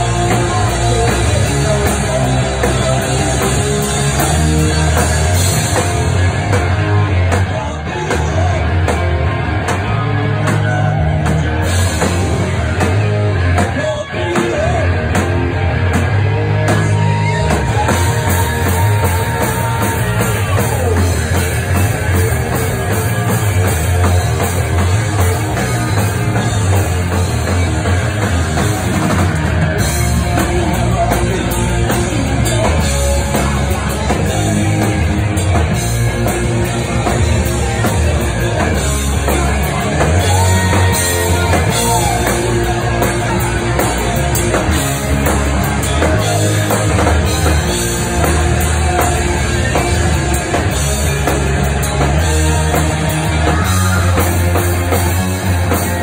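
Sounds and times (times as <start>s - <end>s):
drum kit: 0.0s - 56.0s
electric bass: 0.0s - 56.0s.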